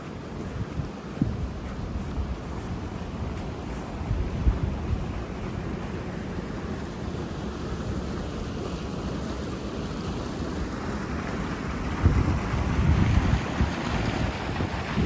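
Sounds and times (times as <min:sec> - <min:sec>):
wind buffeting microphone: 0:00.0 - 0:08.8, 0:10.6 - 0:15.0
floodwater rushing: 0:00.0 - 0:15.0.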